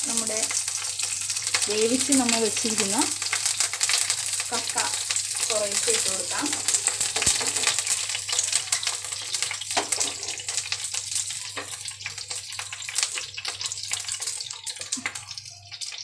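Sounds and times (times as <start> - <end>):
leaves sizzling in hot oil: 0.0 - 16.0.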